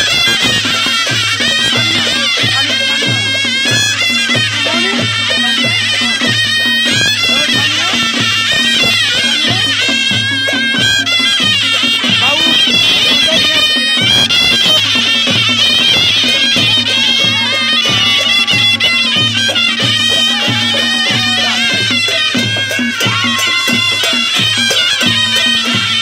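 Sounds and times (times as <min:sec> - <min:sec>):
steady drum beat: 0:00.0 - 0:26.0
wailing shehnai melody: 0:00.0 - 0:26.0.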